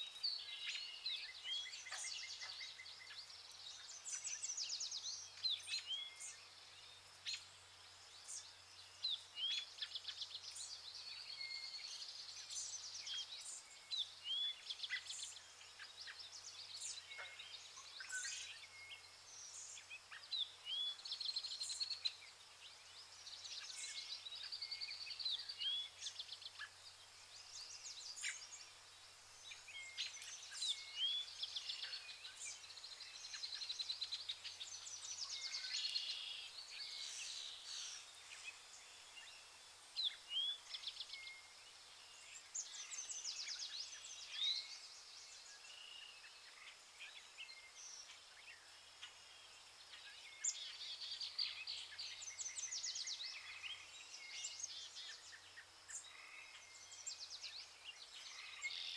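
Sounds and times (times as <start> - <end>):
birds singing: 0.0 - 58.9.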